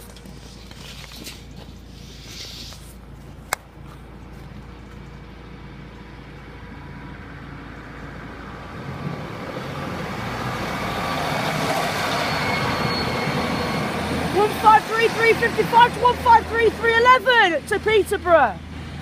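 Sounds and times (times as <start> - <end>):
diesel train passing: 3.0 - 19.0.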